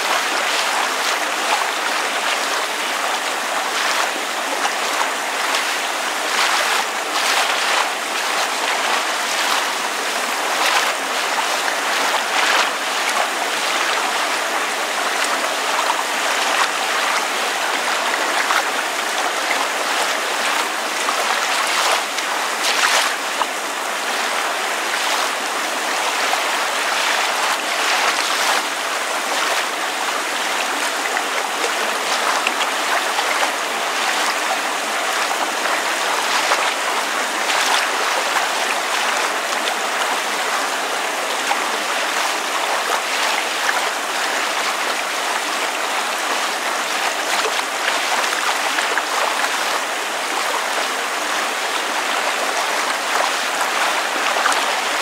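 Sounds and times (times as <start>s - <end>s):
rain falling: 0.0s - 55.0s
water lapping and splashing: 0.0s - 55.0s.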